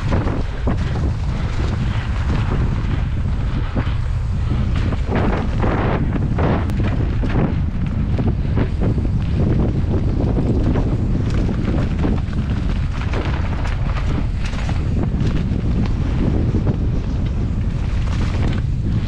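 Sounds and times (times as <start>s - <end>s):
bike rattling over bumps: 0.0s - 19.0s
bike tyres rolling over leaves: 0.0s - 19.0s
wind buffeting microphone: 0.0s - 19.0s.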